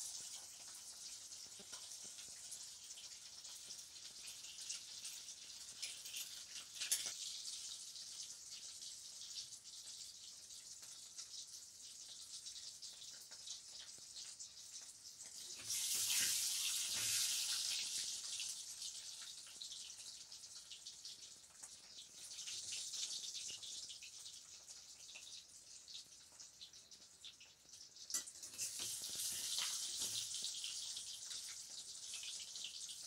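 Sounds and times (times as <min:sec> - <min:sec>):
eggs sizzling in hot oil: 0:00.0 - 0:33.0.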